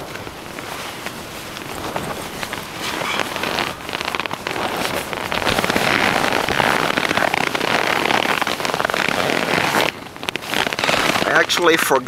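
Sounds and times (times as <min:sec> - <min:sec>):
tent fabric rattling: 0:00.0 - 0:12.0
wind driving snow on tent fabric: 0:00.0 - 0:12.0.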